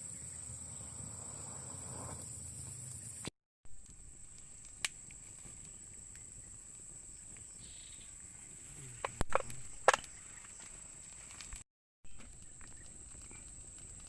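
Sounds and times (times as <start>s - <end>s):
insect chorus buzzing: 0.0s - 11.4s, 12.1s - 14.0s.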